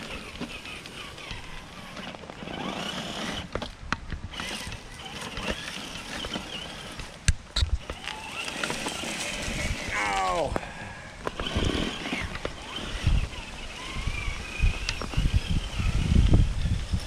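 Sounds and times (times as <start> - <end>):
electric drivetrain whirring: 0.0 - 17.0.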